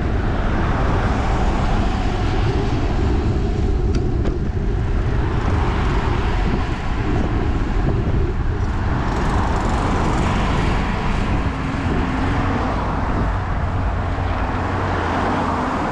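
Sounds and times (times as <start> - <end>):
street traffic: 0.0 - 15.9
wind rush on microphone: 0.0 - 15.9.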